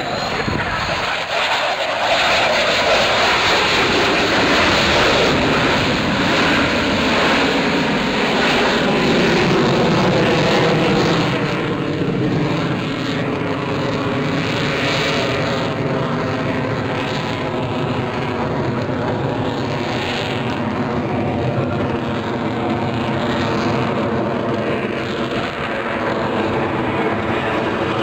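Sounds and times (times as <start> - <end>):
loud jet noise: 0.0 - 28.0.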